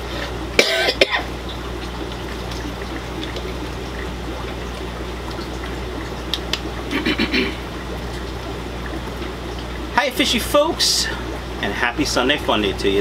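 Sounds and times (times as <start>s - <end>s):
constant low hum: 0.0s - 13.0s
water trickling: 0.0s - 13.0s.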